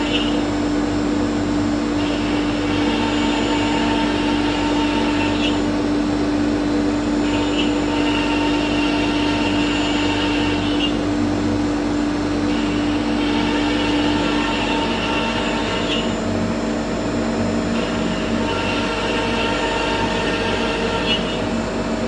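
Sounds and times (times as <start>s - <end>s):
cnc router machine hum: 0.0s - 22.0s
high whine of router: 0.0s - 22.0s.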